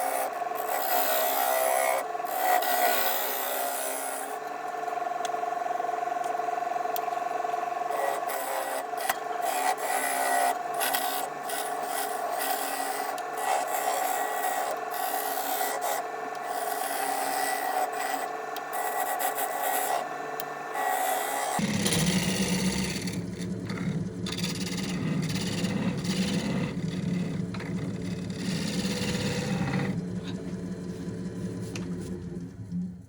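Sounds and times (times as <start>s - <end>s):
tool scraping spinning wood: 0.0s - 4.7s, 7.0s - 33.0s
lathe motor tone: 0.0s - 33.0s.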